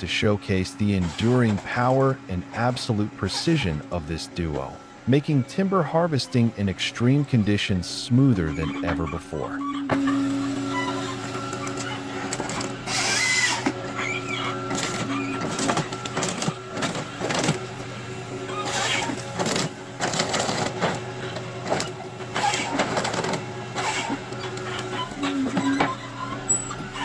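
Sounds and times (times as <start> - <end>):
excavator engine running: 0.0 - 27.0
saw rasping through logs: 0.0 - 27.0.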